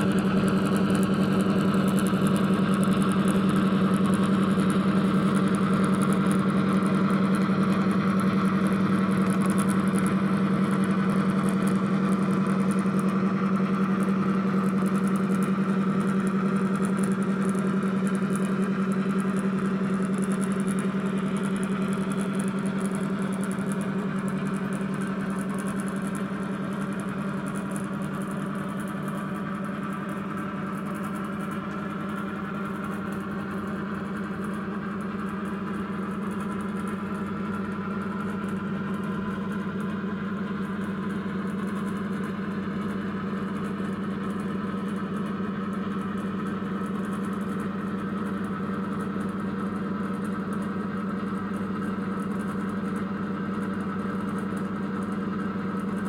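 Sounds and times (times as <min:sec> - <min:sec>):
diesel engine drone from small speaker: 0:00.0 - 0:56.0.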